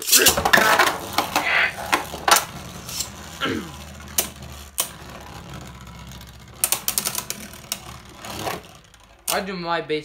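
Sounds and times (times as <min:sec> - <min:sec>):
spinning tops clacking: 0:00.0 - 0:09.7
spinning tops whirring: 0:00.0 - 0:10.0.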